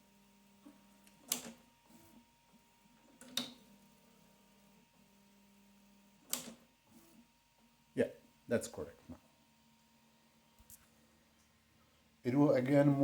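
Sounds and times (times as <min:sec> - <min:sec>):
faint motor hum: 0:00.0 - 0:13.0.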